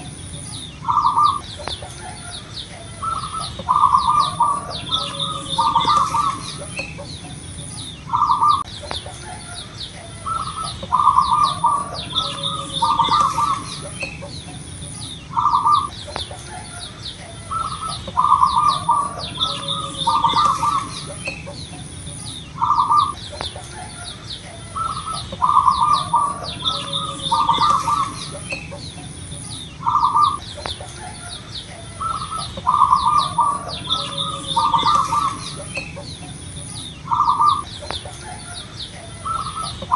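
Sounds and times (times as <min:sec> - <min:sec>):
dove cooing: 0:00.0 - 0:39.9
small birds chirping faintly: 0:00.0 - 0:39.9.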